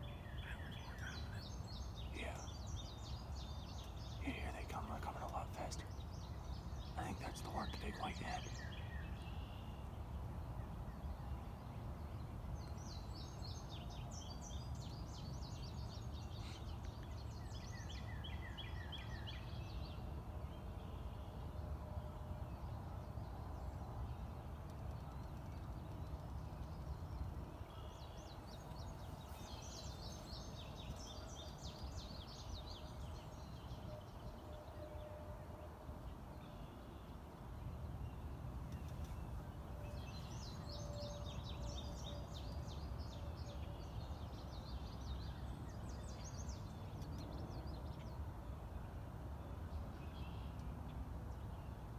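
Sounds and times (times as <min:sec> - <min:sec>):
songbirds trilling: 0:00.0 - 0:21.6, 0:22.4 - 0:51.9.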